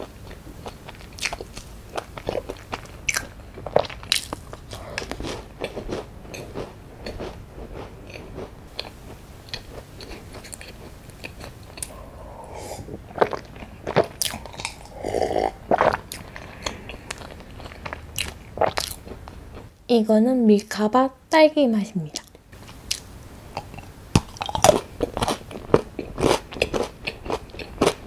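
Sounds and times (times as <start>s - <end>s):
chewing crunchy biscuit: 0.0s - 19.7s, 22.2s - 28.0s.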